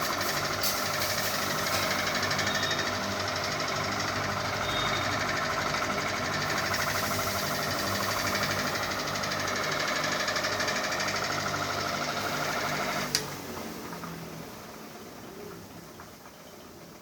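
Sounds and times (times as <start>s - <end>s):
ceiling fan rattling: 0.0s - 17.0s.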